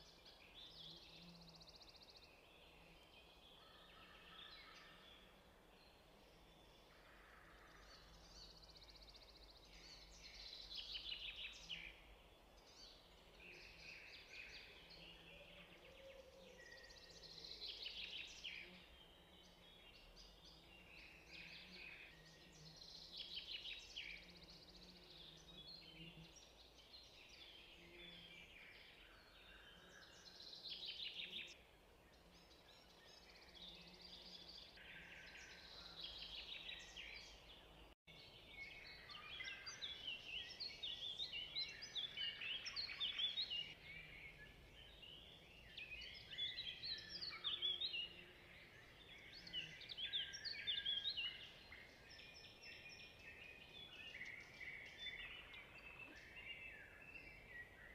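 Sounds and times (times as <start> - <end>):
small birds chirping: 7.6 - 57.9.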